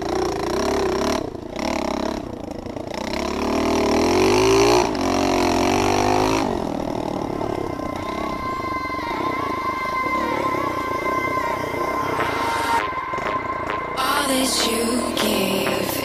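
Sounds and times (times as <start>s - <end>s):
motorbike engine revving: 0.0s - 16.0s.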